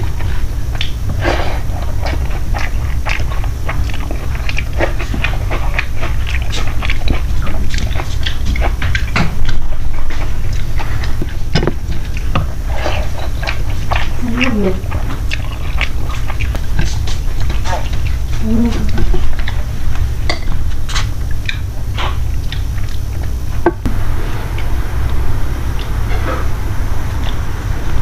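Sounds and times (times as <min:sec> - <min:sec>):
person chewing with mouth smacks: 0:00.0 - 0:24.7
steady low hum: 0:00.0 - 0:28.0.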